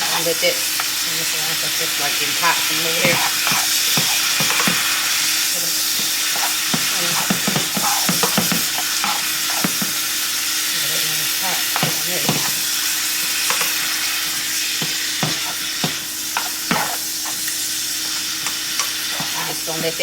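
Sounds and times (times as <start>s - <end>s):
meat and peppers sizzling in a pan: 0.0s - 20.0s
utensil scraping a pan: 0.1s - 10.1s, 10.7s - 20.0s.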